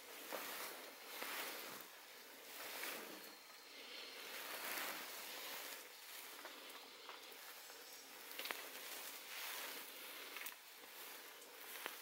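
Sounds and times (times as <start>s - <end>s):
soft rushing outdoor noise: 0.0s - 12.0s.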